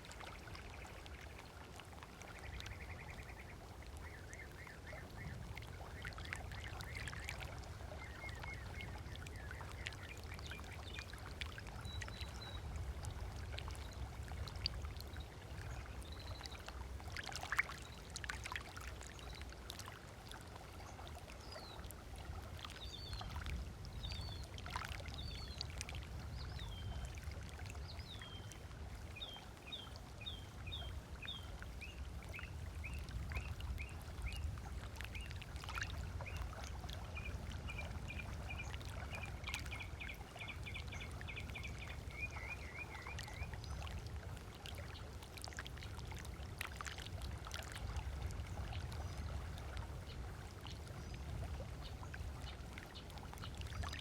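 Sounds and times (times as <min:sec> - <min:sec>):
small waves lapping on shore: 0:00.0 - 0:54.0.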